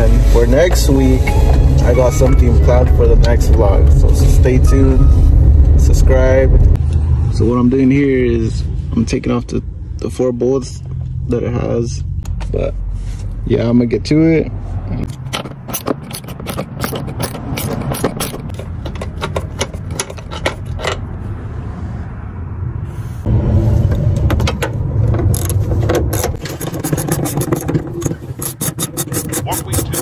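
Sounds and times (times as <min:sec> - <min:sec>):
low hum: 0:00.0 - 0:13.8, 0:16.1 - 0:28.4.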